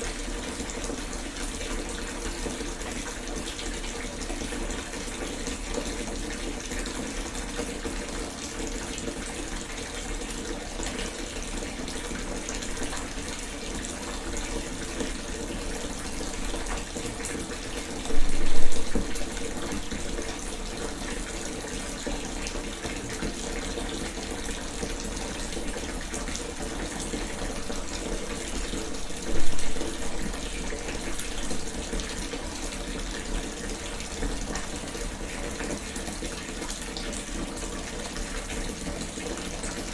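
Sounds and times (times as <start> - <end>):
water rushing from tap: 0.0 - 39.9.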